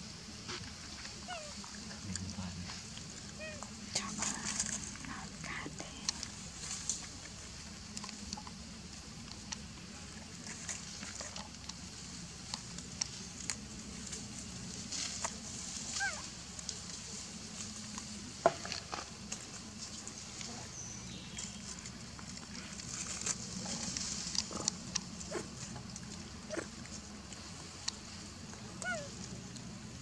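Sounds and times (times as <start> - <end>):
dry leaves crackling: 0.8 - 30.0.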